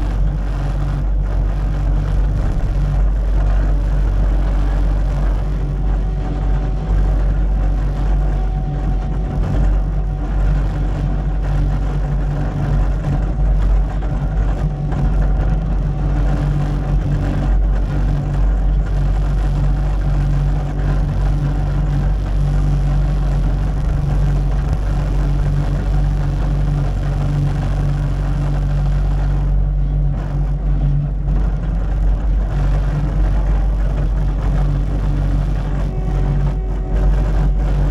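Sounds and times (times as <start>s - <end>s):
diesel engine droning: 0.0s - 37.9s.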